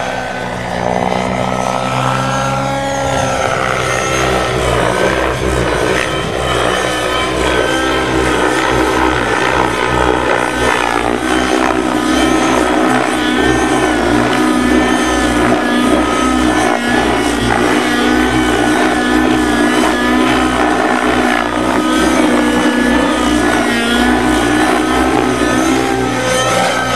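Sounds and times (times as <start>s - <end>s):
model helicopter drone: 0.0s - 26.9s.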